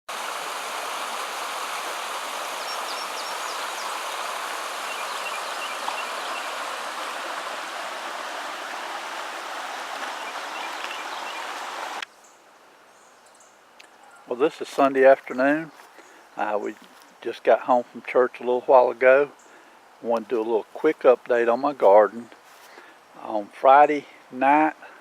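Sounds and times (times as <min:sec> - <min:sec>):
heavy rainfall hiss: 0:00.1 - 0:12.8, 0:13.9 - 0:25.0.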